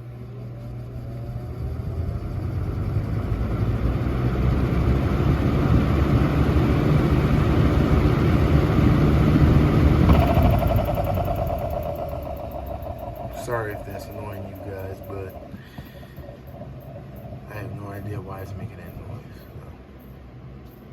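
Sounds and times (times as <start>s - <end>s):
electric fan whirring: 0.0s - 20.9s
fan motor whine: 0.0s - 20.9s
odd extra fan noise: 0.0s - 20.9s.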